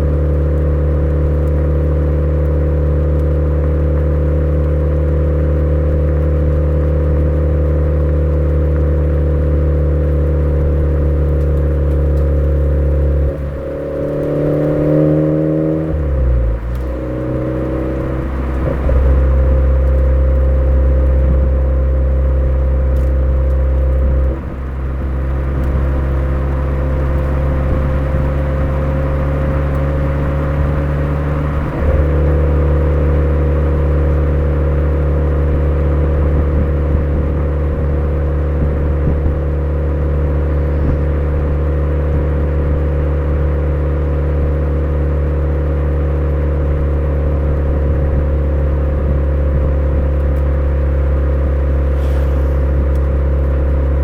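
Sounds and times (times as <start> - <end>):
car exhaust engine note: 0.0 - 54.0.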